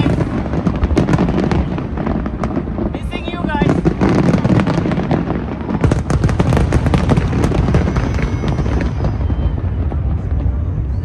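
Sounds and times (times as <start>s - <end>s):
firework bursts and crackles: 0.0s - 11.0s
low rumbling booms: 0.0s - 11.0s.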